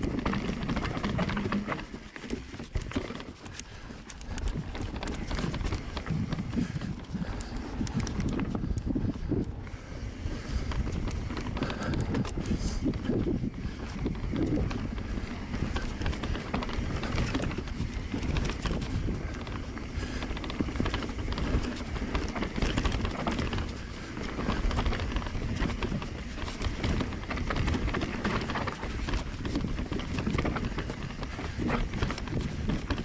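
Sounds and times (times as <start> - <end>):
bike rattles and knocks: 0.0 - 33.0
bike tyre rumble on trail: 0.0 - 33.0.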